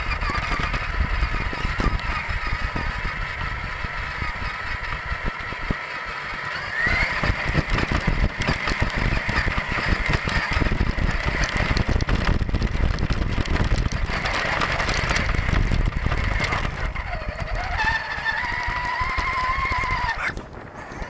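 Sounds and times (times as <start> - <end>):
electric motor whine: 0.0 - 21.0
toy truck rattling and bumping: 0.0 - 21.0.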